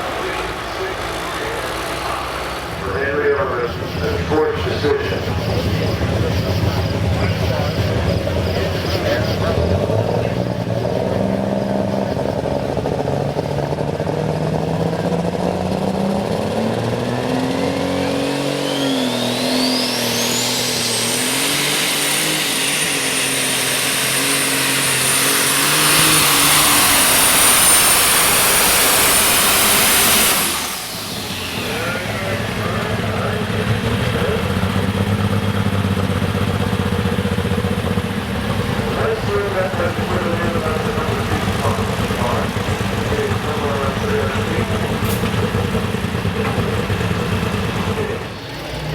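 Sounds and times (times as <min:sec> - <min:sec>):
tractor diesel engine under load: 0:00.0 - 0:48.9
turbocharger whine: 0:00.0 - 0:48.9.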